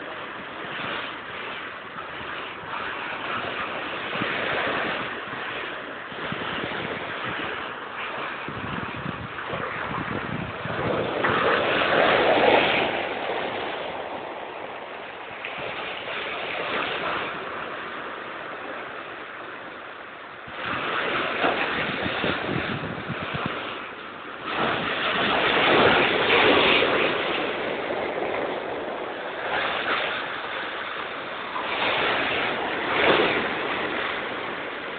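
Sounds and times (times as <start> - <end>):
sea waves crashing: 0.0 - 34.9.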